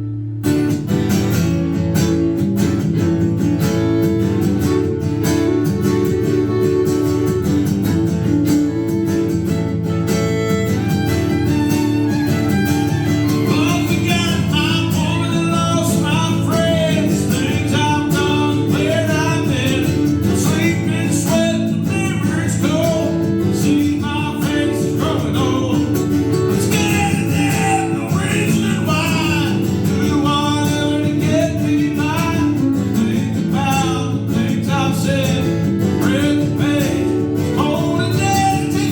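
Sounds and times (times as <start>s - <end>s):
lead melody line: 0.0s - 31.8s
acoustic guitar strumming: 0.0s - 38.9s.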